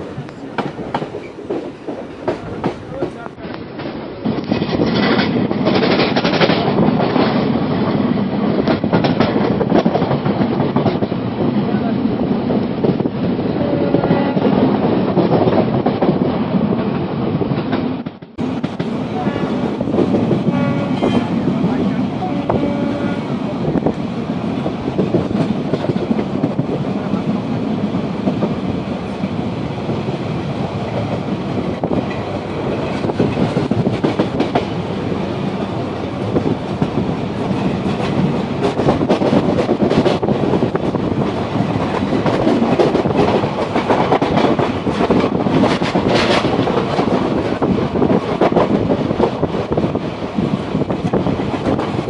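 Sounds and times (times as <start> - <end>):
clickety-clack over rail joints: 0.0 - 52.0
train wheels rumbling on track: 0.0 - 52.0.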